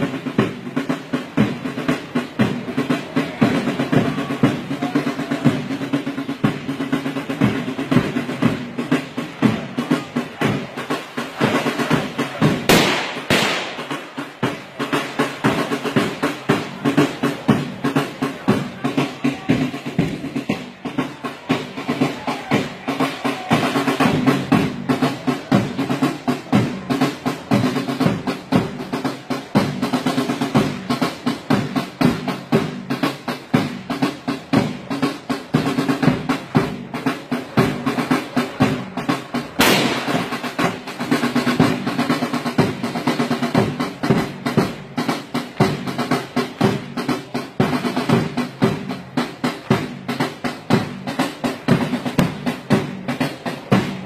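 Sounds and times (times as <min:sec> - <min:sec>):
marching drums beaten fast: 0:00.0 - 0:54.0.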